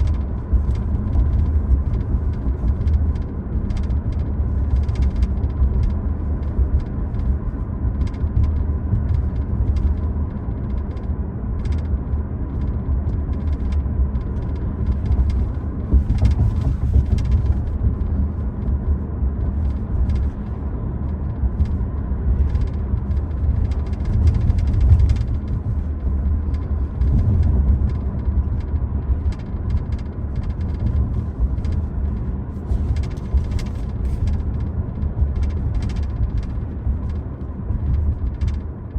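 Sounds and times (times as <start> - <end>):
low road rumble in car cabin: 0.0 - 38.9.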